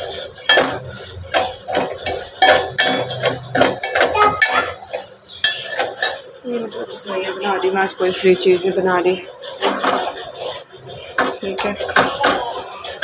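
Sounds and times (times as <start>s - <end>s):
spoon scraping metal pot: 0.0s - 8.3s, 9.0s - 13.0s.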